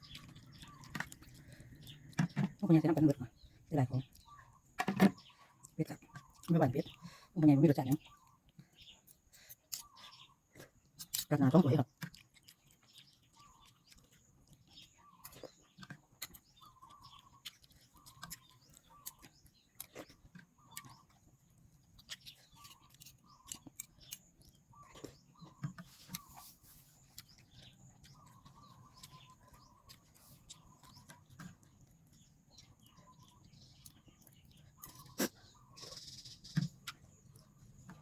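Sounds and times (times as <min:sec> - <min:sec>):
faint bird chirps: 0:00.0 - 0:38.0.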